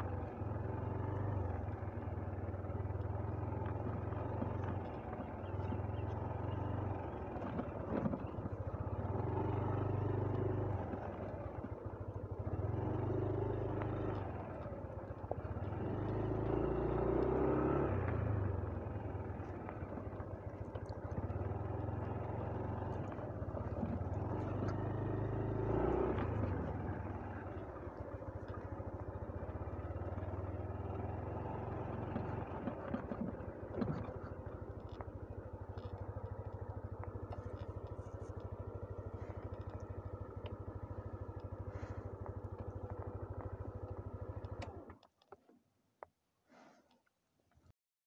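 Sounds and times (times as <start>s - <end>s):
motorcycle engine running: 0.0s - 45.1s.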